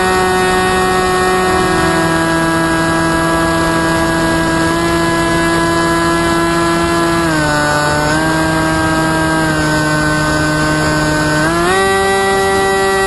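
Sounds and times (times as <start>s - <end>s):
drone motor and propeller droning: 0.0s - 13.0s.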